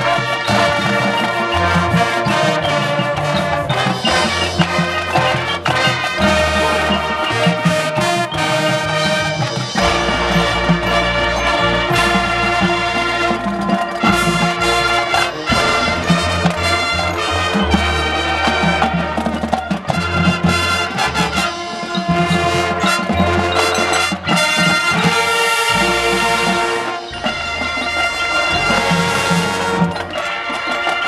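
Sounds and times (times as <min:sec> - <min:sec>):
marching band playing: 0:00.0 - 0:31.0
sharp percussion strikes: 0:00.0 - 0:31.0.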